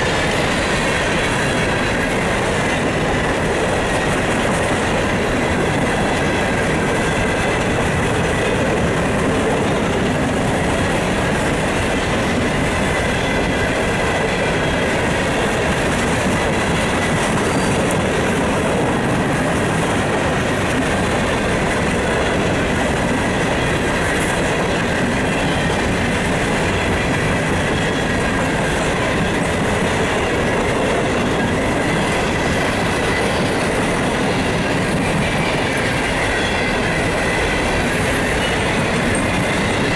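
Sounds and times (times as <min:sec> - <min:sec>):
faint squeal of train wheels: 0:00.0 - 0:39.9
rumble and clatter of train wheels: 0:00.0 - 0:39.9.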